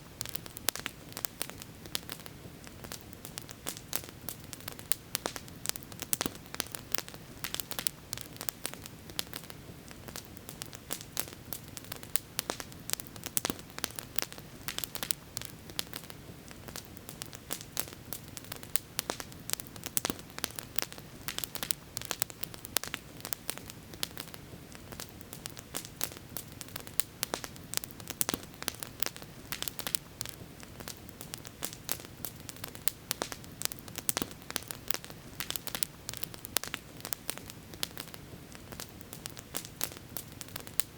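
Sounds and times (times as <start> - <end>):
campfire crackling: 0.0 - 40.9
burning wood popping: 0.1 - 40.9.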